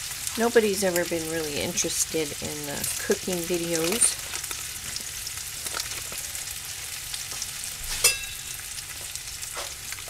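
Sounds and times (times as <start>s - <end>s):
steak sizzling in a skillet: 0.0s - 10.0s.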